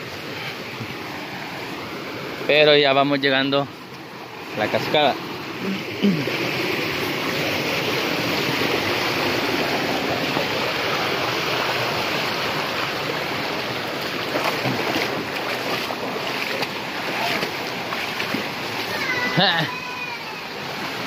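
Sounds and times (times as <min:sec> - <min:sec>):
mountain stream rushing water: 0:00.0 - 0:21.0.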